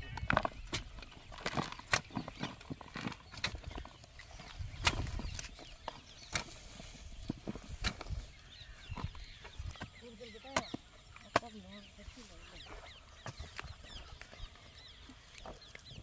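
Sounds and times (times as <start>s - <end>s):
hoes scraping dung: 0.0s - 16.0s.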